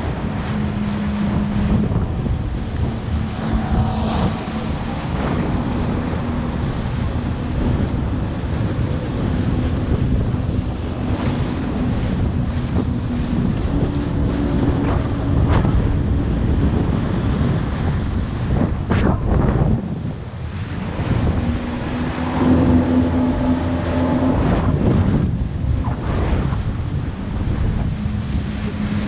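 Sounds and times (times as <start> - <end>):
jet ski engine drone: 0.0 - 29.0
wind buffeting microphone: 0.0 - 29.0.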